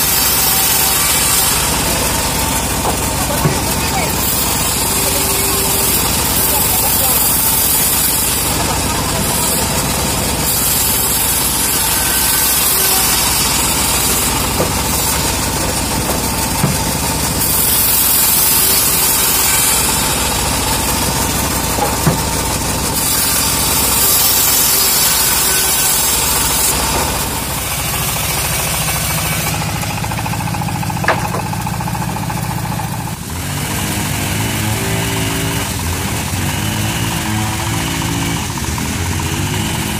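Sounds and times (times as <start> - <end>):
bandsaw sawmill running: 0.0 - 39.9
saw blade hissing through wood: 0.0 - 39.9.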